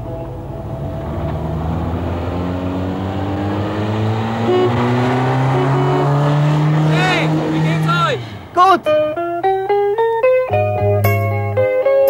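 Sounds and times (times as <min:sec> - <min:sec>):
car engine accelerating: 0:00.0 - 0:11.2.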